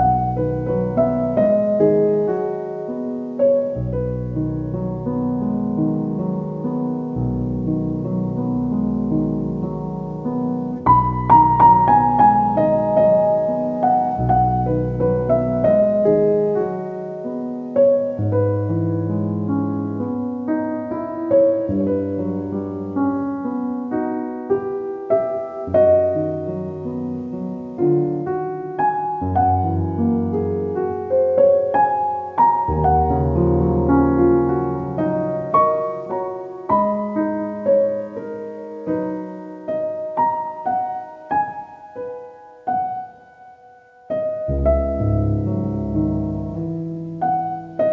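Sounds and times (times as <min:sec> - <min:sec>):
slow piano melody: 0:00.0 - 0:47.9.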